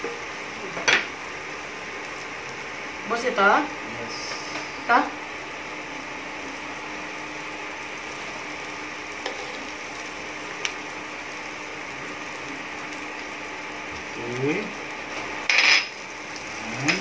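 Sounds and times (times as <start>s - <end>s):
onions frying in oil: 0.0s - 17.0s.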